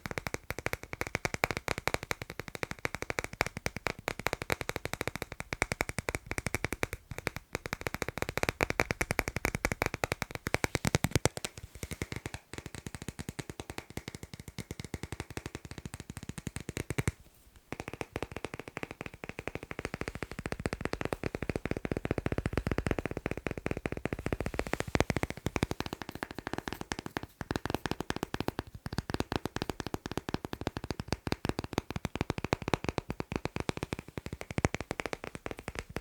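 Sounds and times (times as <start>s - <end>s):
fast tapping on magnets: 0.0s - 36.0s.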